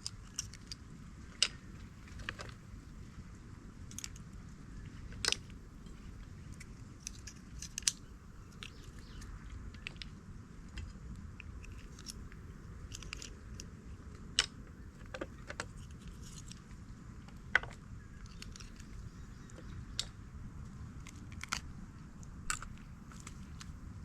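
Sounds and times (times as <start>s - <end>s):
mussel shells clicking and scraping: 0.0s - 3.0s, 3.9s - 4.2s, 4.9s - 20.2s, 21.0s - 24.0s
low background rumble: 0.0s - 24.0s.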